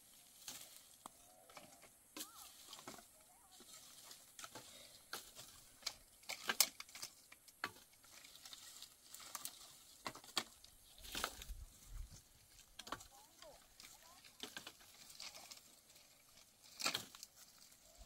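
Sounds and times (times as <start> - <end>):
dry branches crackling and snapping: 0.0 - 18.0.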